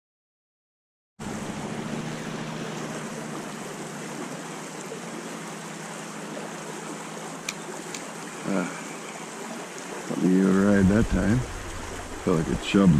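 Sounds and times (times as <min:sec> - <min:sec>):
creek water rushing: 0:01.2 - 0:12.9.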